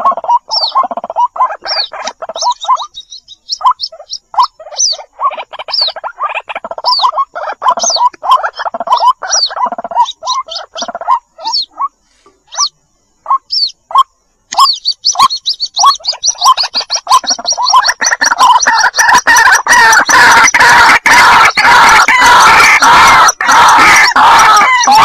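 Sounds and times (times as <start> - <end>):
chicks peeping: 0.0 - 25.0
waterhens calling: 0.0 - 25.0.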